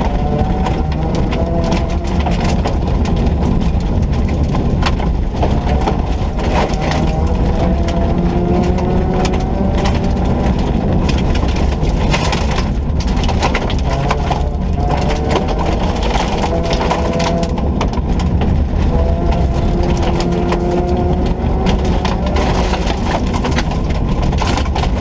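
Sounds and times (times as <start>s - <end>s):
rally car engine at full throttle: 0.0s - 25.0s
stones crackling against car underside: 0.0s - 25.0s.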